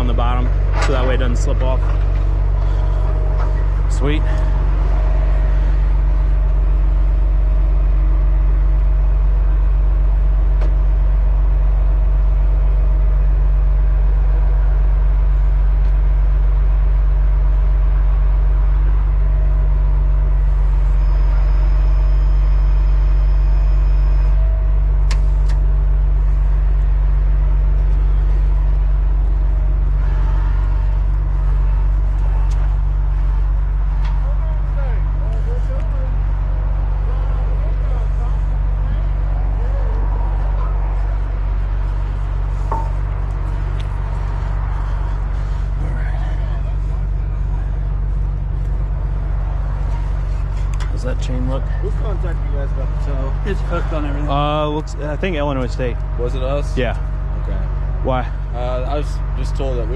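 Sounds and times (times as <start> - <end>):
diesel truck engine idling: 0.0 - 59.9
high-pitched whine: 0.0 - 59.9.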